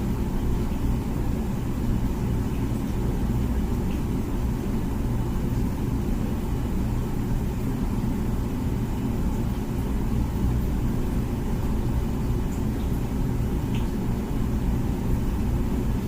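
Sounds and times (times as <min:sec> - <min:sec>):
dishwasher humming: 0:00.0 - 0:16.0.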